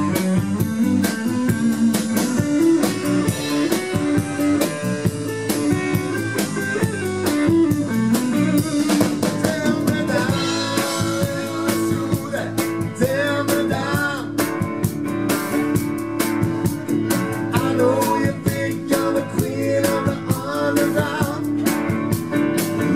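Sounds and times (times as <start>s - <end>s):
bass guitar: 0.0s - 22.9s
drum kit: 0.0s - 22.9s
electric guitar: 0.0s - 22.9s.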